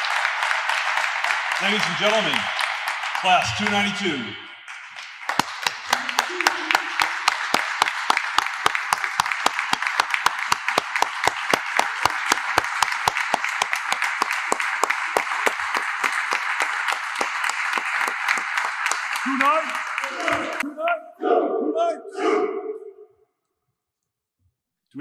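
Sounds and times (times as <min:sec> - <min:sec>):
close hands clapping sharply: 0:00.0 - 0:20.6
crowd applause: 0:00.0 - 0:20.7.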